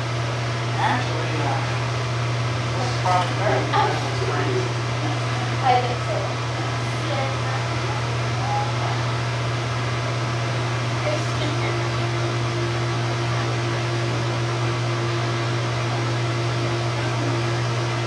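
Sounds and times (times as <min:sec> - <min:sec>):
low pump hum: 0:00.0 - 0:18.0
second steady hum: 0:00.0 - 0:18.0.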